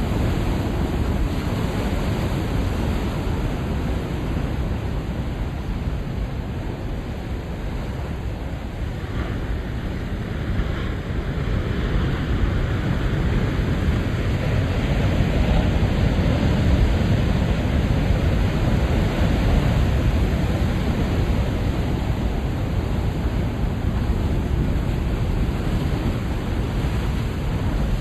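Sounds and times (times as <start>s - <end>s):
ocean surf breaking on rocks: 0.0s - 28.0s.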